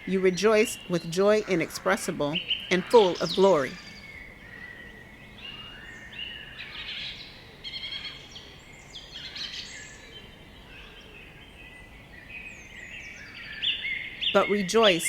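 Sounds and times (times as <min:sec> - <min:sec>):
faint outdoor background: 0:00.0 - 0:15.0
songbirds chirping and trilling: 0:00.0 - 0:15.0.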